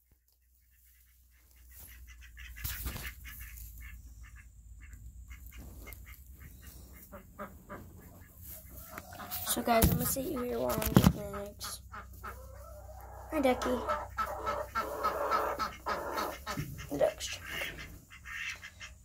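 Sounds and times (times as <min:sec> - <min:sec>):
ducks quacking: 0:00.2 - 0:19.0.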